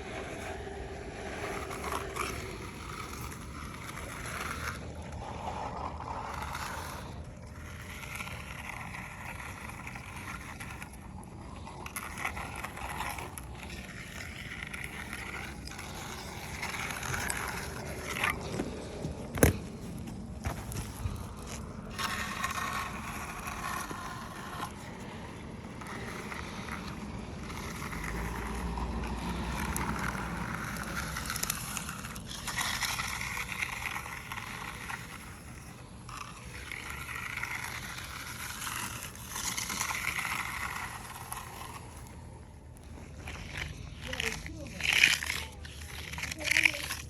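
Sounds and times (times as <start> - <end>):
tools scraping concrete: 0.0 - 47.0.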